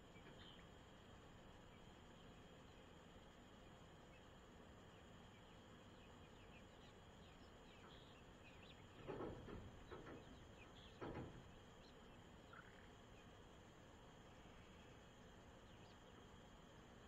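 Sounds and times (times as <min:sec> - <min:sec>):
chicken peeping: 0:00.0 - 0:17.0.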